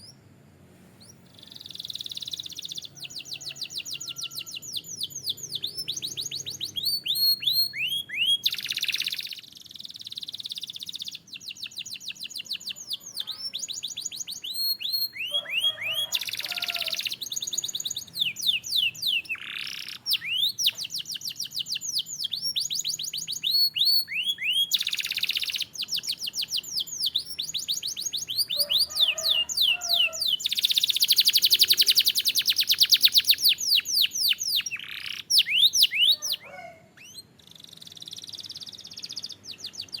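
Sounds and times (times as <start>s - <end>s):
canary singing trills: 0.0s - 0.2s, 1.0s - 40.0s.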